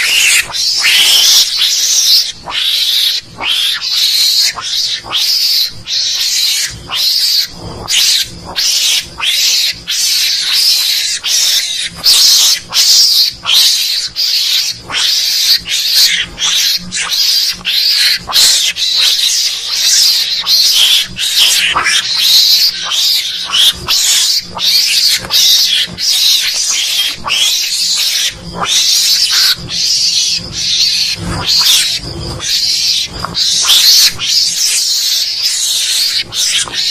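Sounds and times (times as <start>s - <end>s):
mongoose screeching calls: 0.0s - 36.9s.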